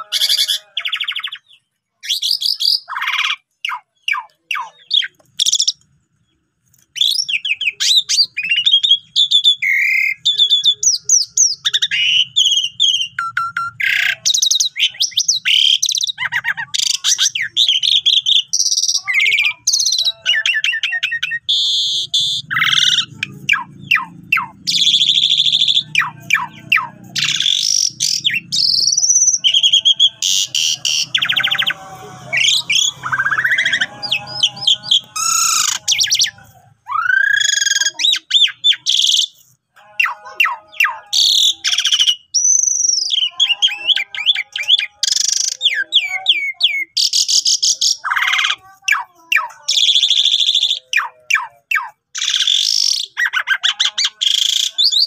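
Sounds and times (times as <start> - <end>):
starling singing: 0.0 - 55.0.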